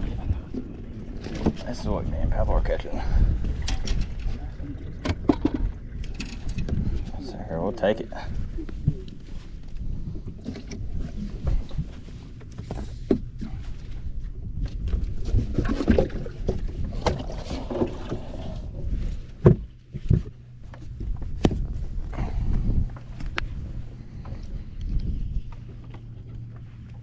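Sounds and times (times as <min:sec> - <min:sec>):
boat engine low rumble: 0:00.0 - 0:27.0.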